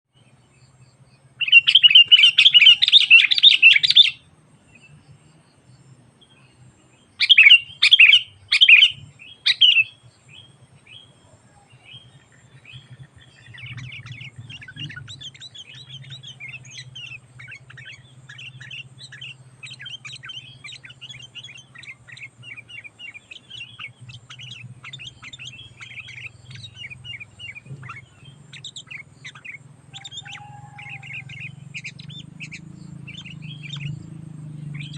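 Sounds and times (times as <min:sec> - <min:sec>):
bulbul chattering: 0:00.2 - 0:34.9
faint low hum: 0:00.2 - 0:34.9.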